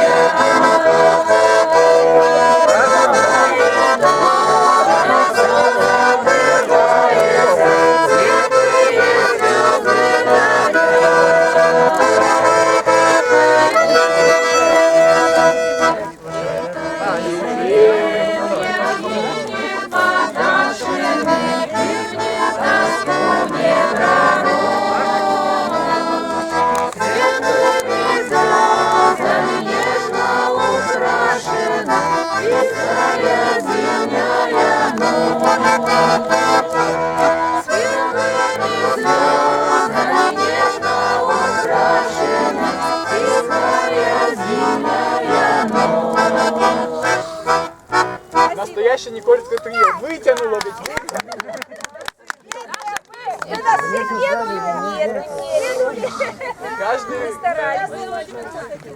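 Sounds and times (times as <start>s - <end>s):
accordion playing folk tune: 0.0s - 52.6s, 53.2s - 58.9s.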